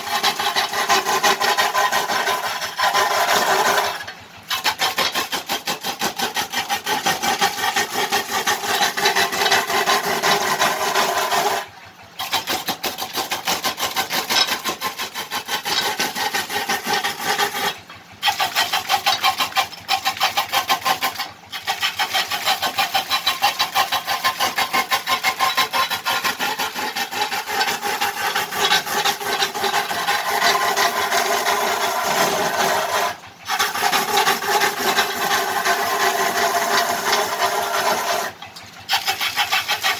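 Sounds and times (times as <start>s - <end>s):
lathe tool scraping spinning wood: 0.0s - 39.9s.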